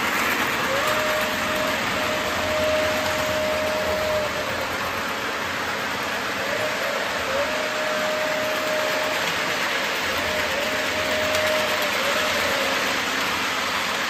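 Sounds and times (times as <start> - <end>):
model trains rumbling on rails: 0.0 - 14.0.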